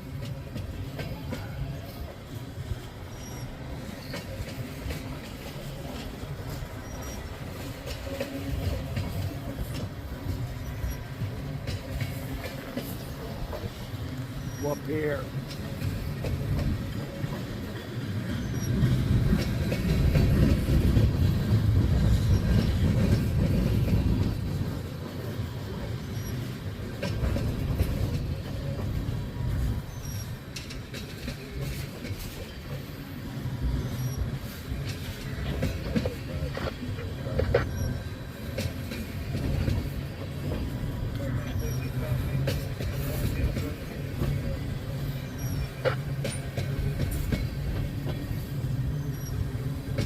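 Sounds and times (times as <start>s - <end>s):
train wheels rumbling on rail: 0.0s - 50.0s
wheels clicking over rail joints: 0.0s - 50.0s.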